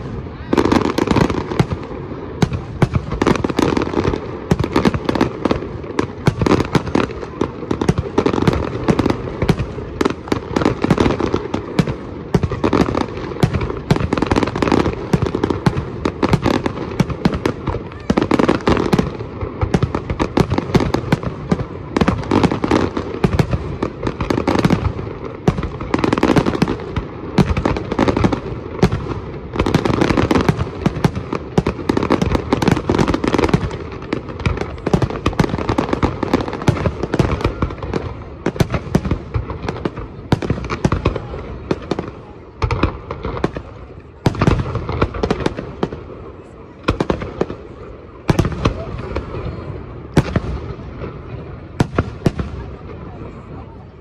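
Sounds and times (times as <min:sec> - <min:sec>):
fireworks banging and crackling: 0:00.0 - 0:54.0.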